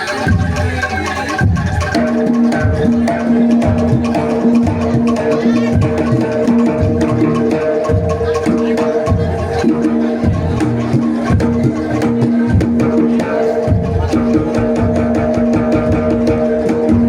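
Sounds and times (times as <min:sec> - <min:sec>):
drums and percussion beat: 0:00.0 - 0:17.0
sustained melodic tone: 0:02.0 - 0:17.0.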